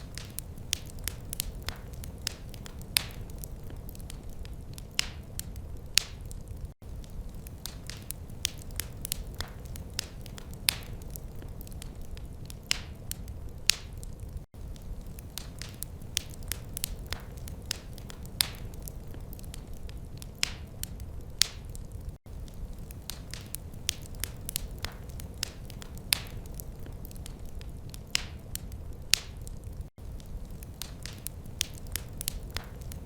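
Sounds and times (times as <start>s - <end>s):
low fire rumble: 0.0s - 33.0s
wood fire crackling: 0.0s - 33.0s.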